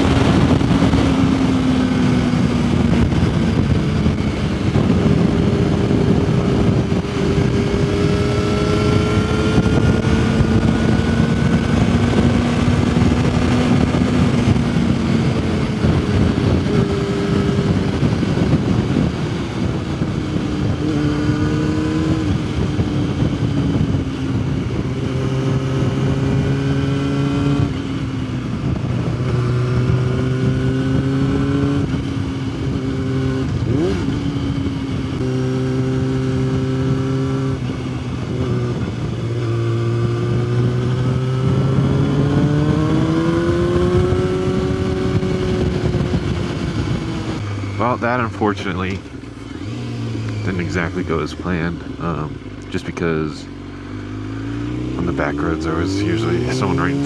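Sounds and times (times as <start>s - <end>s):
motorcycle engine revving: 0.0s - 57.0s
wind noise: 0.0s - 57.0s.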